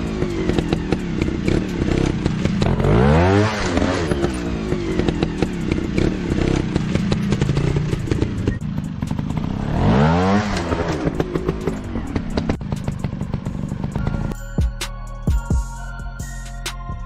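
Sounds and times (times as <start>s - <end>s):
motorcycle engine revving: 0.0s - 14.4s
engine clattering and ticking: 0.0s - 14.8s.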